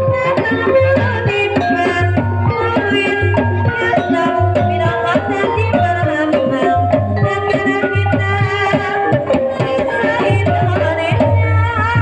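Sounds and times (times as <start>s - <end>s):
gamelan music: 0.0s - 12.0s.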